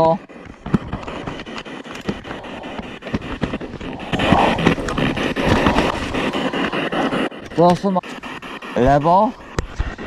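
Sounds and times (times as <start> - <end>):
radio static hiss: 0.0 - 10.0
rapid clicks: 0.0 - 10.0
snatches of radio broadcast: 0.0 - 10.0.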